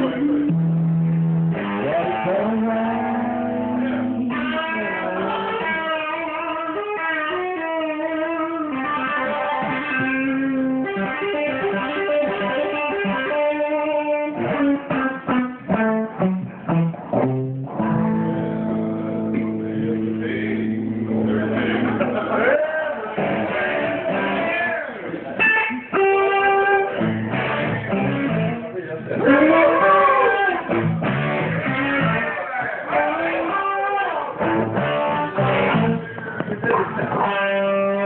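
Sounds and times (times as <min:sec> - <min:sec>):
live band playing: 0:00.0 - 0:20.0, 0:25.4 - 0:28.6, 0:29.2 - 0:38.0
electric guitar melody: 0:00.0 - 0:38.0.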